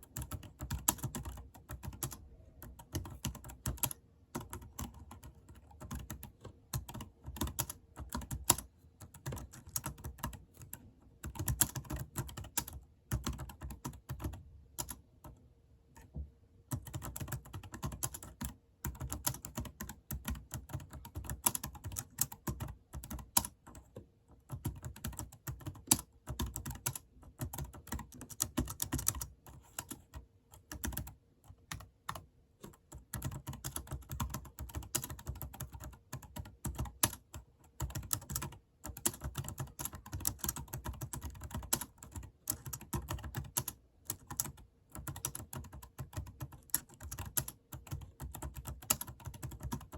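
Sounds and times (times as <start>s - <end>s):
computer keyboard typing: 0.0s - 15.4s, 16.7s - 49.9s.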